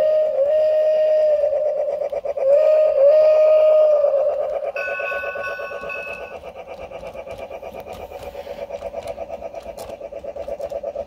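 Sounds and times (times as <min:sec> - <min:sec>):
steady higher tones: 0:00.0 - 0:09.5
model train clatter-hum: 0:00.0 - 0:11.0.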